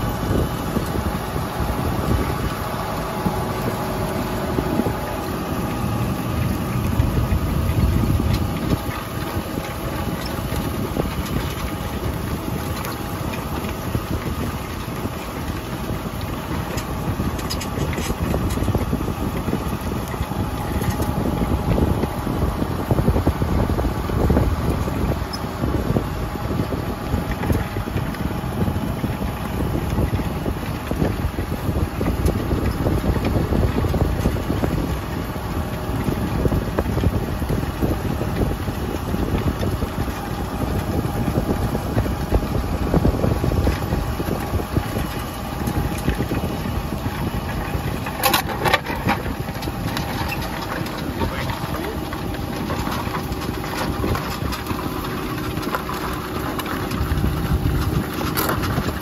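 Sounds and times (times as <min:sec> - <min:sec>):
steady whine: 0:00.0 - 0:59.0
tractor diesel engine running: 0:00.0 - 0:59.0.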